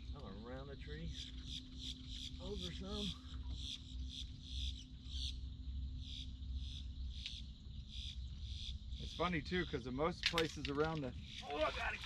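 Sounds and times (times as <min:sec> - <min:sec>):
insect chirping: 0:00.0 - 0:12.0
low steady rumble: 0:00.0 - 0:12.0.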